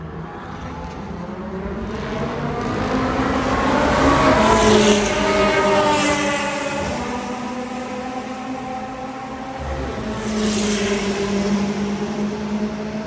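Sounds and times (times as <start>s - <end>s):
car passing at speed: 1.8s - 13.0s.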